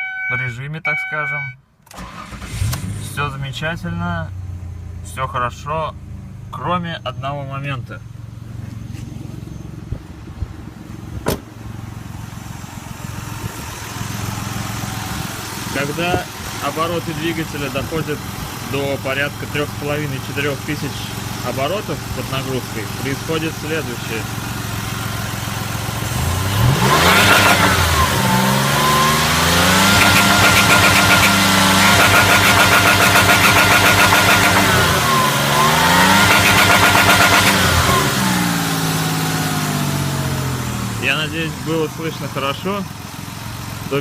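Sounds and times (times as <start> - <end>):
car engine idling: 1.9 - 44.0.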